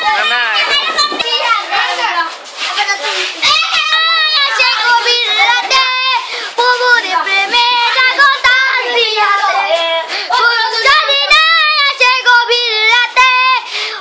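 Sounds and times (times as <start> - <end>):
boy singing: 0.0 - 14.0.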